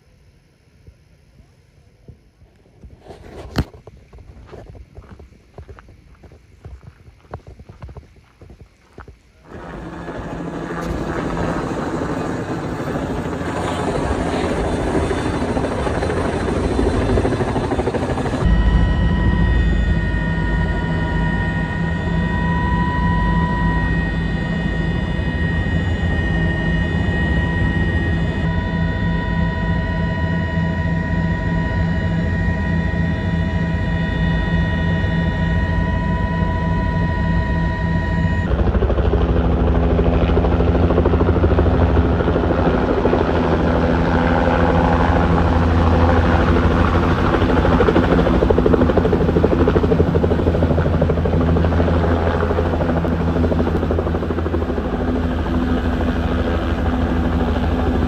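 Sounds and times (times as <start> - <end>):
helicopter turbine whine: 2.4 - 58.0
helicopter rotor blades chopping: 9.4 - 58.0.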